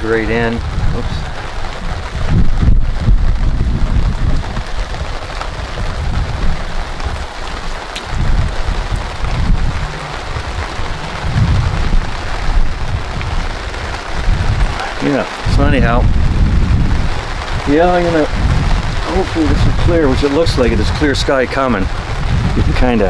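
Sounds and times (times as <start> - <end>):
heavy rain: 0.0 - 23.0
low uneven rumble: 0.0 - 23.0.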